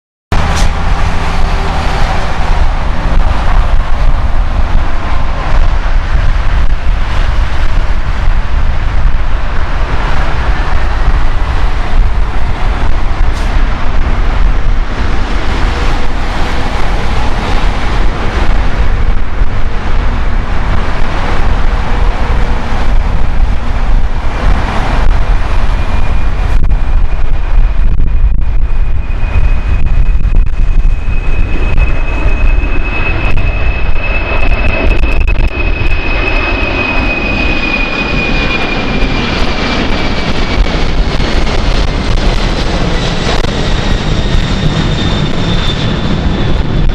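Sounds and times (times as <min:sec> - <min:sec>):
jet engines whining: 0:00.3 - 0:46.9
wind buffeting microphone: 0:00.3 - 0:46.9.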